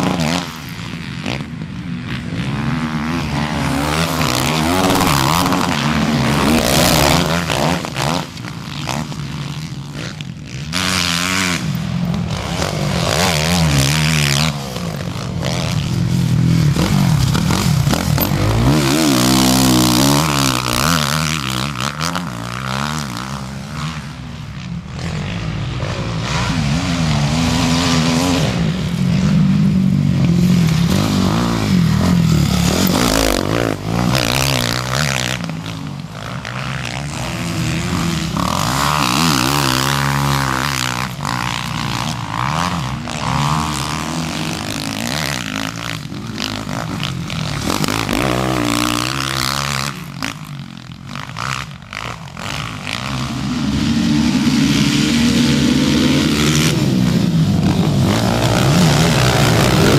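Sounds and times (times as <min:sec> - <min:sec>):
bikes rushing by: 0:00.0 - 0:59.9
dirt bike engines revving: 0:00.0 - 0:59.9.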